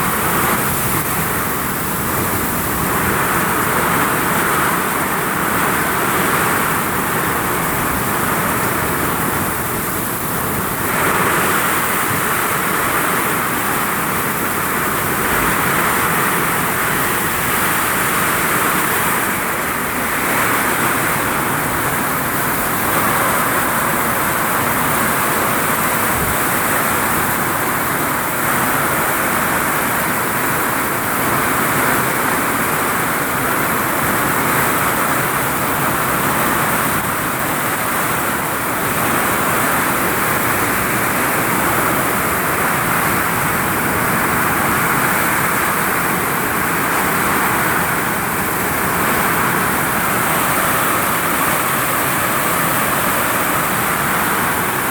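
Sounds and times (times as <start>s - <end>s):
heavy rain on a roof: 0.0s - 54.9s.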